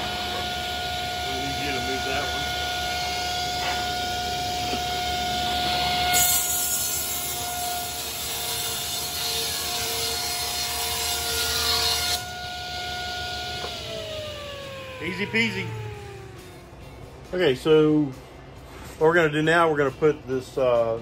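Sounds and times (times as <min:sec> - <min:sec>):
table saw whining: 0:00.0 - 0:17.1.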